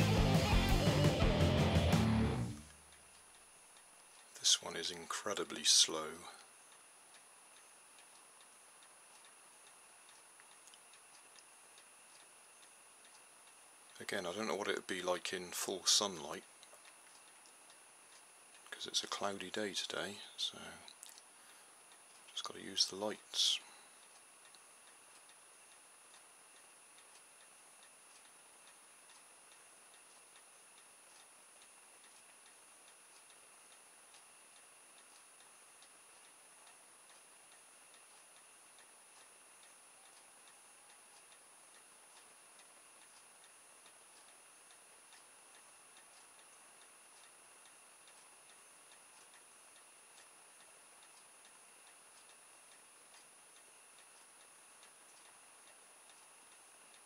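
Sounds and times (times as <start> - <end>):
faint high-pitched whine: 2.2 - 57.0
faint regular ticking: 2.6 - 57.0.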